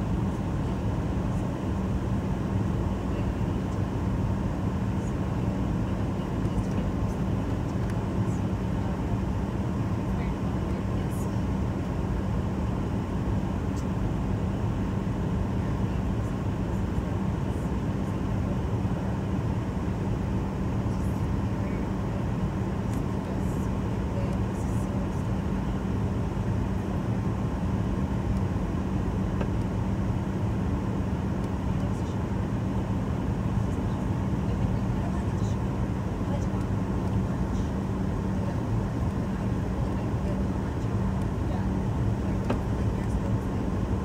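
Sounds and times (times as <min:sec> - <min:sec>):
airliner cabin engine drone: 0:00.0 - 0:44.0
constant low hum: 0:00.0 - 0:44.0.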